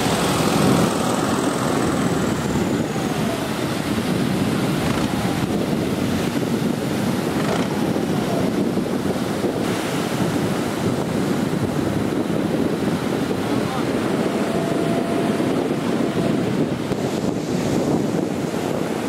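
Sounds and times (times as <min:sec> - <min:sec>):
outboard motors running: 0:00.0 - 0:19.0
surf breaking: 0:00.0 - 0:19.0
wind buffeting microphone: 0:00.0 - 0:19.0.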